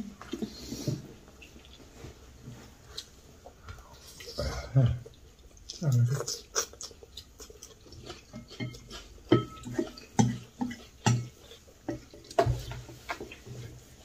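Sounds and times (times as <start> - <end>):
noodles slurped and chewed: 0.1 - 14.0.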